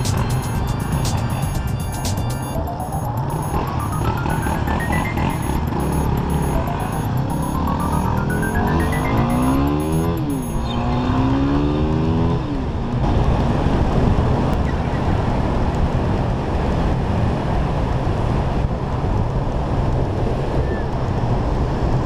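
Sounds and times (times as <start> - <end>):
motorcycle engine accelerating: 0.0 - 20.5
rushing noise of riding: 0.0 - 22.0.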